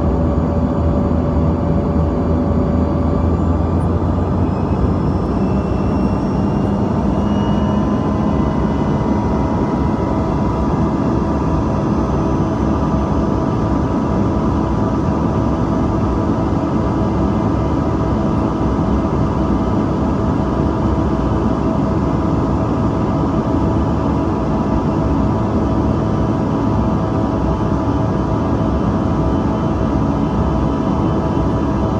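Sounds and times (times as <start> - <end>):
faint engine whine: 0.0 - 31.9.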